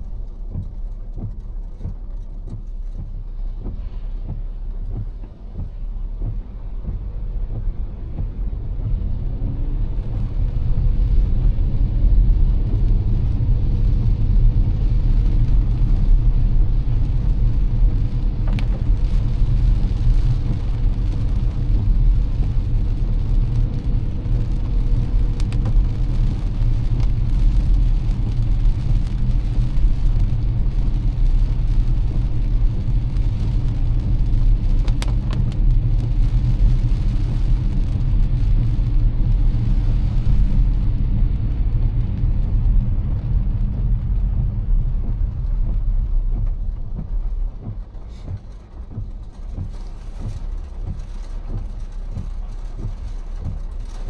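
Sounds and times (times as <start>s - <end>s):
rain and spray hiss: 0.0s - 54.0s
tyres and engine rumble: 0.0s - 54.0s.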